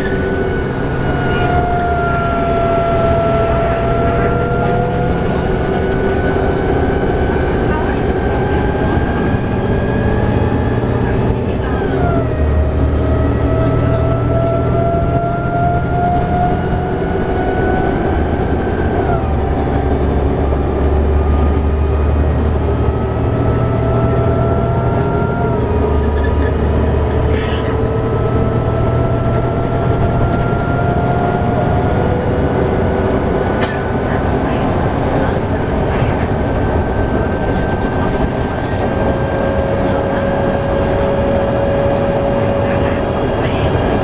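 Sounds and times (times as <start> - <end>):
bus transmission whine: 0.0 - 44.0
low engine and road rumble: 0.0 - 44.0.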